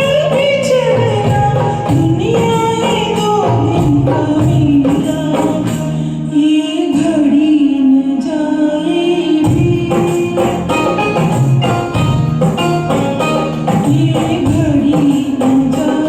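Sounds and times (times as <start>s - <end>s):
karaoke backing music with percussion: 0.0s - 16.0s.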